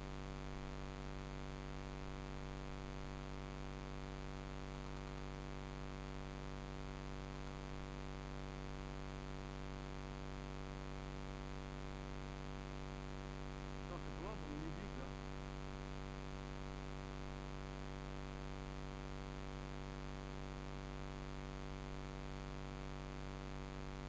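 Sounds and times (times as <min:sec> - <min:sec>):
electrical hum with buzzy overtones: 0:00.0 - 0:24.0.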